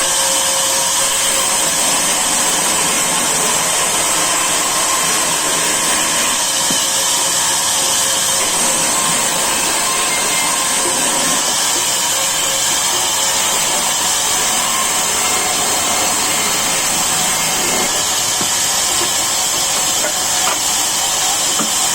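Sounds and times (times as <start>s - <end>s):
sawmill saw whirring: 0.0s - 21.9s.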